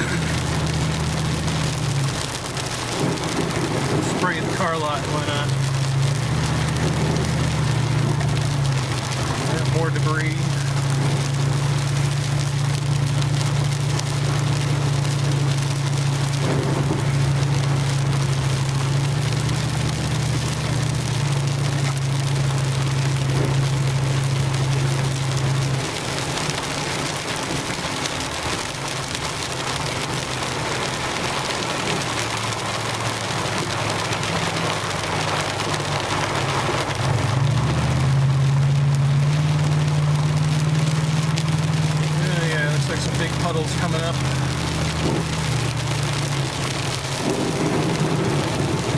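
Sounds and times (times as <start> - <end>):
heavy rain on vehicle roof: 0.0 - 48.9
low engine hum: 0.0 - 48.9.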